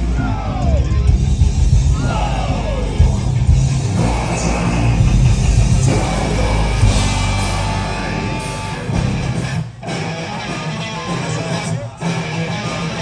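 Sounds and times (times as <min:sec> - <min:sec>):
live metal band playing: 0:00.0 - 0:13.0.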